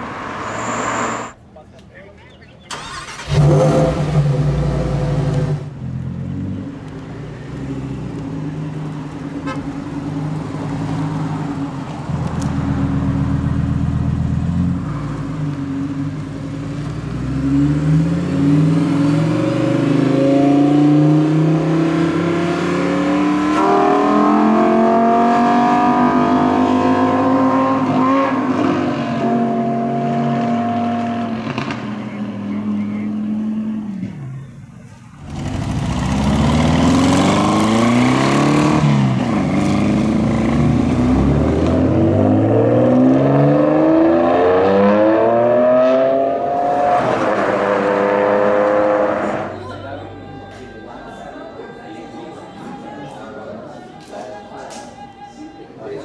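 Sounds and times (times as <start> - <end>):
car engines revving: 0.0 - 1.5, 2.7 - 54.8.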